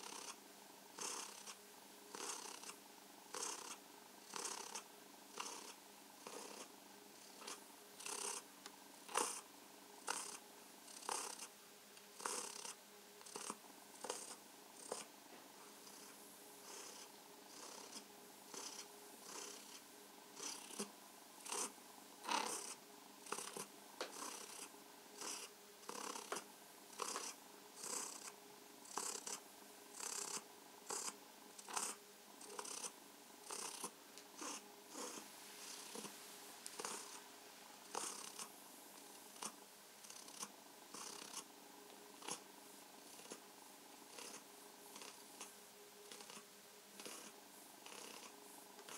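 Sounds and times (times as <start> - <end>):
cat purring: 0.0 - 11.5, 12.2 - 15.1, 15.7 - 19.8, 20.4 - 38.5, 39.3 - 41.5, 42.2 - 42.4, 43.0 - 43.4, 44.0 - 48.9.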